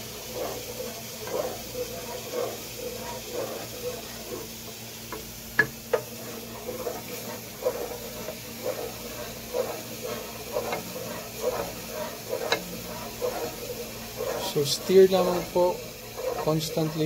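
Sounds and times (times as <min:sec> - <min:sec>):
wooden spoon scraping a pot: 0:00.0 - 0:17.0.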